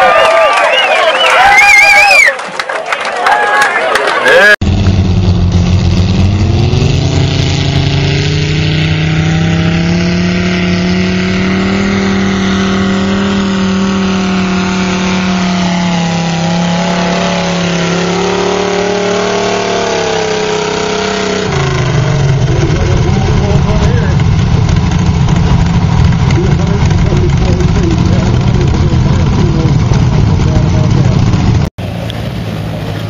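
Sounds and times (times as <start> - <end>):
tractor engines at full throttle: 4.2 - 33.0.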